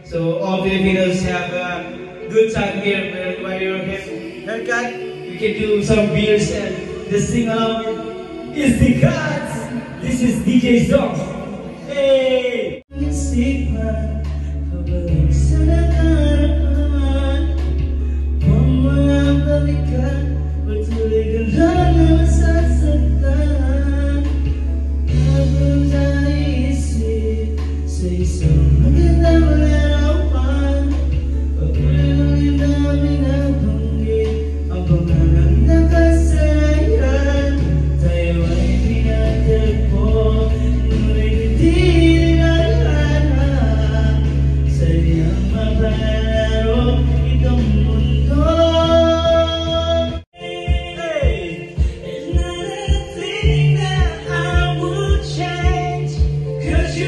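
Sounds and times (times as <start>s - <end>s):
backing track with bass notes: 0.0s - 57.0s
man singing into microphone: 0.0s - 57.0s.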